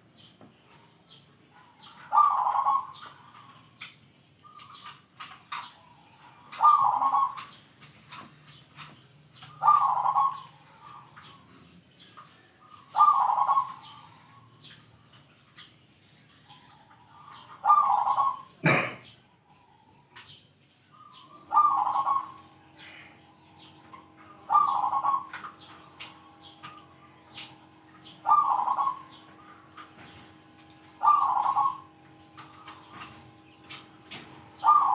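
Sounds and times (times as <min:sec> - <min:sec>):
dove cooing: 0:01.5 - 0:03.6, 0:04.5 - 0:08.2, 0:08.8 - 0:11.5, 0:12.1 - 0:14.8, 0:16.5 - 0:20.3, 0:21.0 - 0:34.9.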